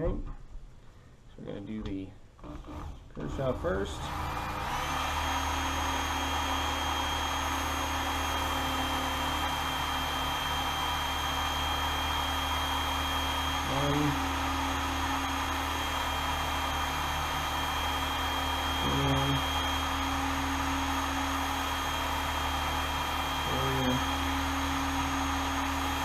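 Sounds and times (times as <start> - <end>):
belt sharpener running: 2.6 - 26.0.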